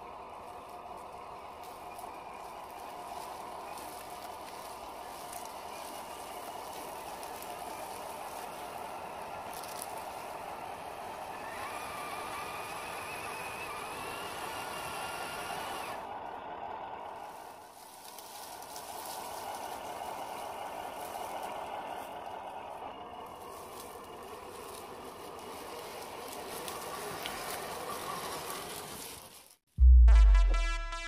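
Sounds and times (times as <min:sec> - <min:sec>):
rc truck motor whining: 0:00.0 - 0:17.7, 0:18.6 - 0:29.3
higher motor whine: 0:00.0 - 0:29.1
wheels churning in mud: 0:00.0 - 0:29.7.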